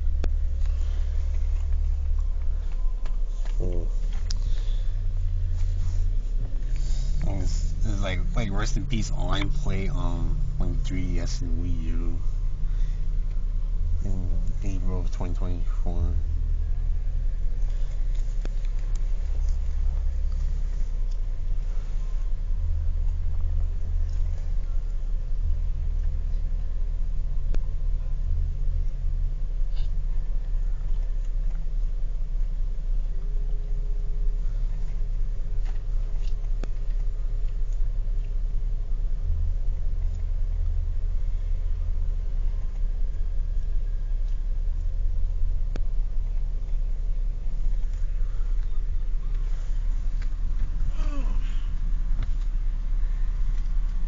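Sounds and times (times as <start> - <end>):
car low rumble: 0.0 - 54.0.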